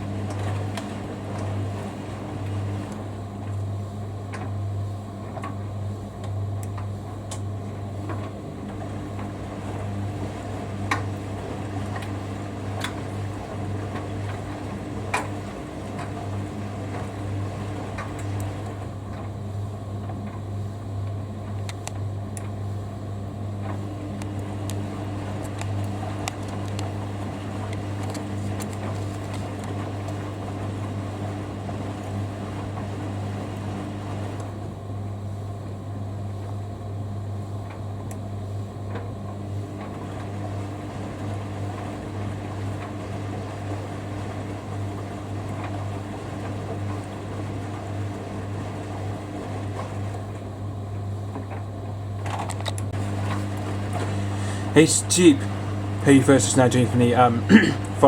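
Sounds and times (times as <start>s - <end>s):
washer-dryer humming: 0.0s - 58.0s.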